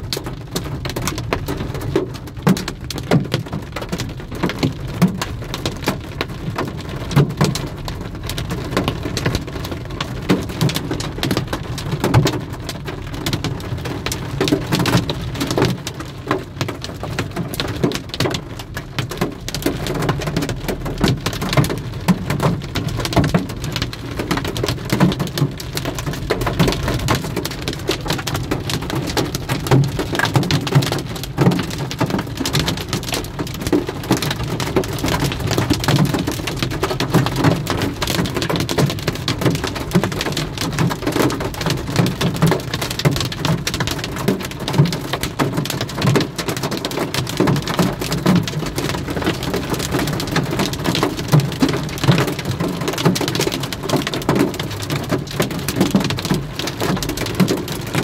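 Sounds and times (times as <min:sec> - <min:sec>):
heavy rain on hard surface: 0:00.0 - 0:58.0.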